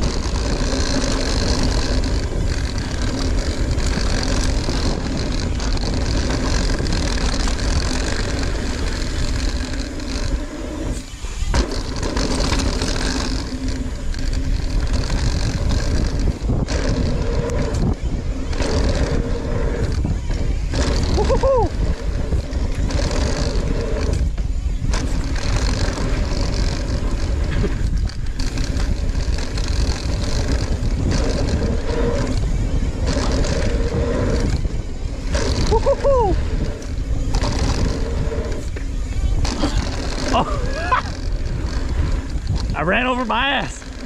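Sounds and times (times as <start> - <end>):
bike tyres on dirt: 0.0 - 44.0
wind rushing on microphone: 0.0 - 44.0.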